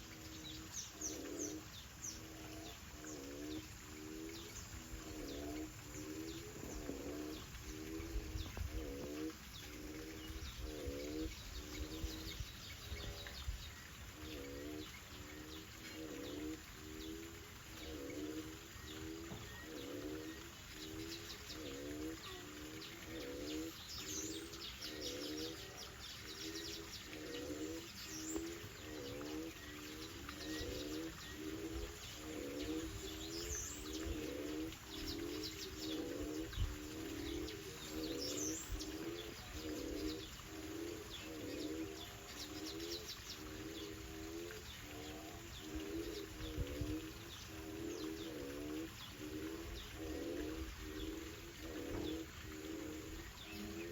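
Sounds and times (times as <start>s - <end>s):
doves cooing: 0.0s - 53.9s
small birds chirping and trilling: 0.0s - 53.9s.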